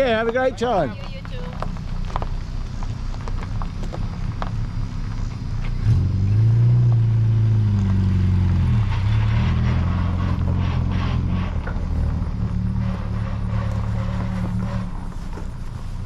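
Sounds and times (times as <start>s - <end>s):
car engine idling and pulling away: 0.0s - 16.0s.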